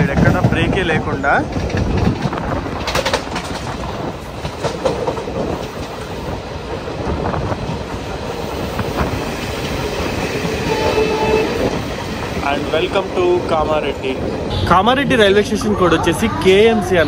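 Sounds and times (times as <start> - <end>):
wheels clacking over rail joints: 0.0 - 14.5
train rumbling on track: 0.0 - 17.0.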